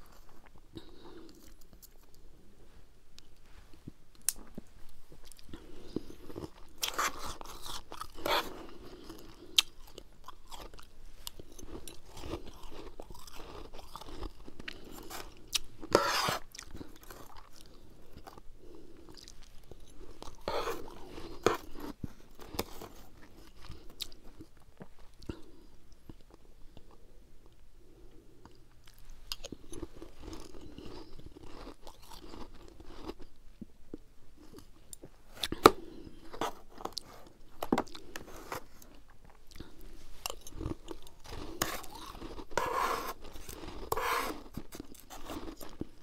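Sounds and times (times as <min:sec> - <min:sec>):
chewing and crunching frost: 0:04.1 - 0:27.0, 0:28.4 - 0:46.0.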